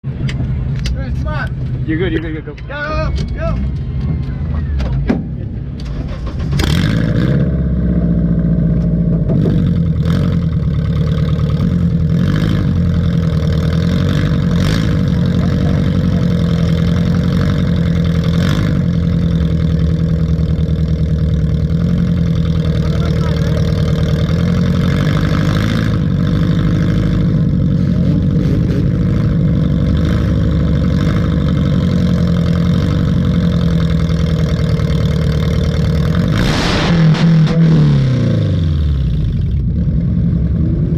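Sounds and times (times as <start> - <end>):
race car engine at high revs: 6.3 - 40.9.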